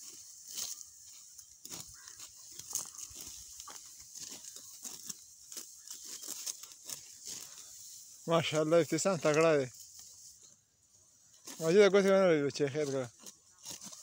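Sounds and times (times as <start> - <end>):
wheat stalks crunching: 0.0 - 14.0.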